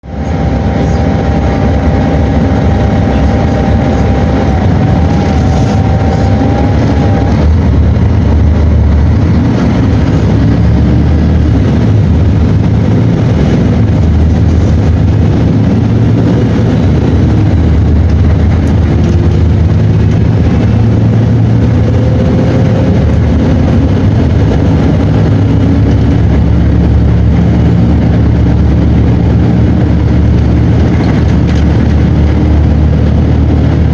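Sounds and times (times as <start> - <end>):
diesel bus engine running: 0.0 - 33.9
steady high whine: 0.0 - 33.9.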